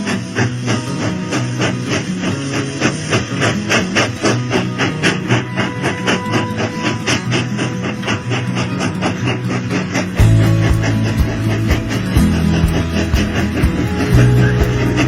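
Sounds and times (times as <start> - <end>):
strummed background music: 0.0 - 15.0.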